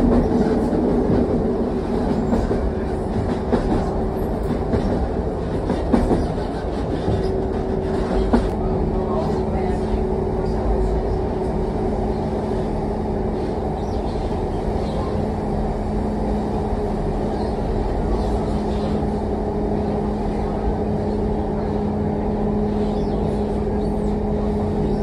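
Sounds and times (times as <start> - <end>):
train carriage rumble: 0.0 - 25.0.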